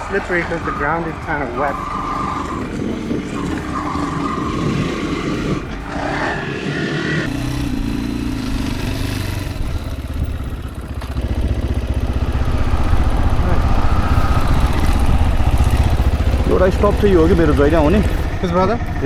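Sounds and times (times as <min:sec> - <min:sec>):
bike rattling over rough ground: 0:00.0 - 0:19.0
dirt bike engine running: 0:00.0 - 0:19.0.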